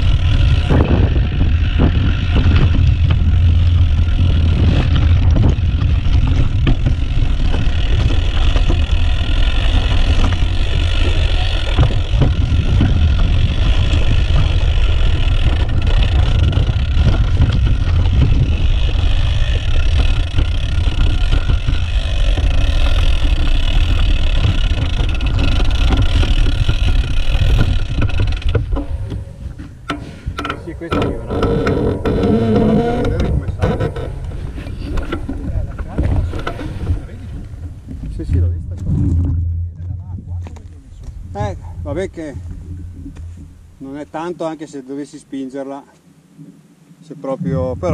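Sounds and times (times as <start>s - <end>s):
bike knocks and rattles: 0.0s - 43.6s
wind buffeting microphone: 0.0s - 44.6s, 46.2s - 47.9s
bike tyres rolling over stones: 0.0s - 45.2s.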